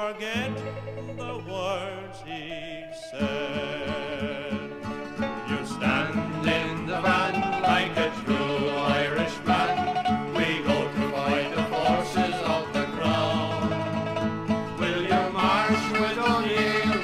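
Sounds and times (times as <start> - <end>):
banjo: 0.0 - 17.0
folk band playing: 0.0 - 17.0
guitar: 0.0 - 17.0.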